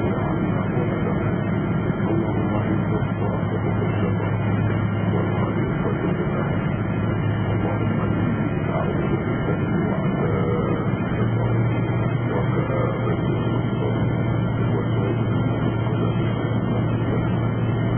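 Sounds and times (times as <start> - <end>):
airliner cabin engine rumble: 0.0 - 17.9.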